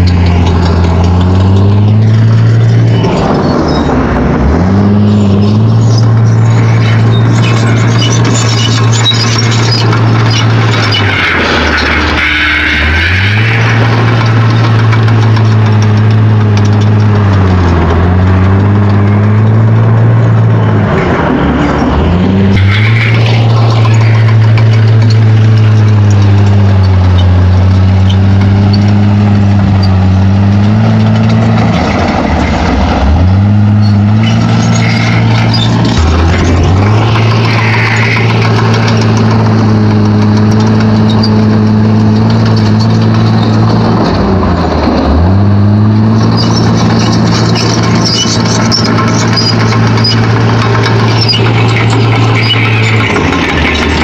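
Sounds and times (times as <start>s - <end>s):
bulldozer diesel engine under load: 0.0s - 54.0s
rough scraping and clattering: 0.0s - 54.0s.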